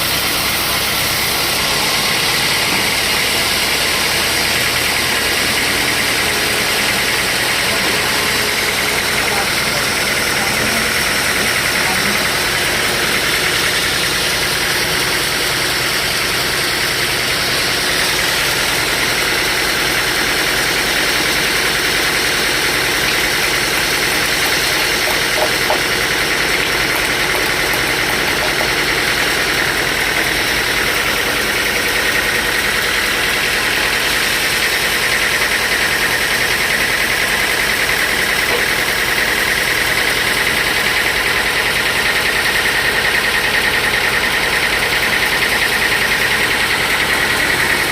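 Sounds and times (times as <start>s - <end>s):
saw cutting timber: 0.0s - 47.9s.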